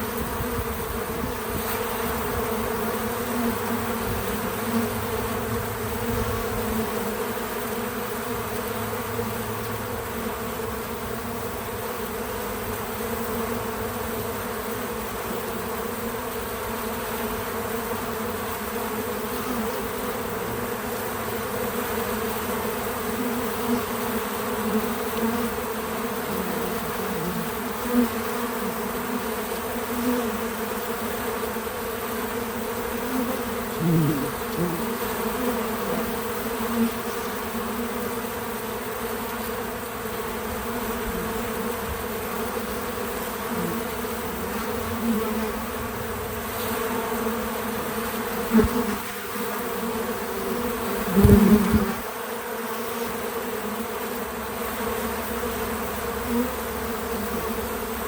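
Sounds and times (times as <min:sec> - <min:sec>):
bees buzzing: 0:00.0 - 0:58.0.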